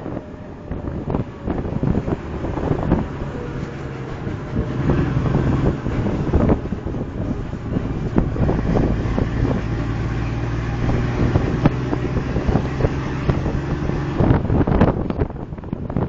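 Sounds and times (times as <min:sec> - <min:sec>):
truck engine humming: 0:00.0 - 0:16.0
wind buffeting microphone: 0:00.0 - 0:16.0.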